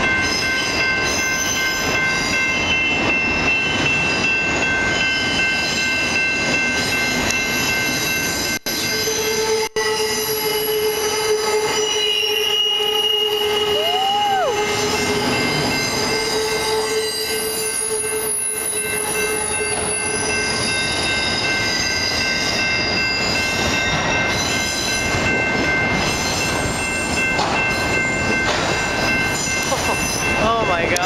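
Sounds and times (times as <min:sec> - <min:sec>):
train wheels squealing: 0:00.0 - 0:02.5, 0:06.8 - 0:30.4
train cars rumbling: 0:00.0 - 0:31.0.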